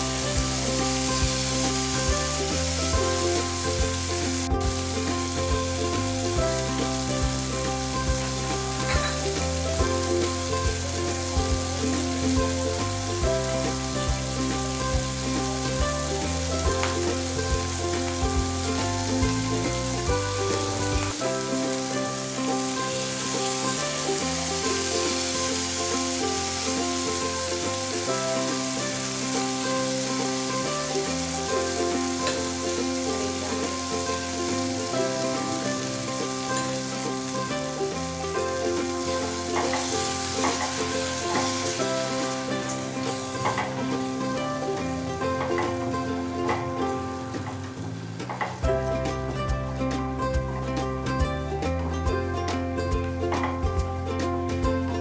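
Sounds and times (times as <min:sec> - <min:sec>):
prawns sizzling in oil: 0:00.0 - 0:51.2
background music with bass line: 0:00.0 - 0:55.0.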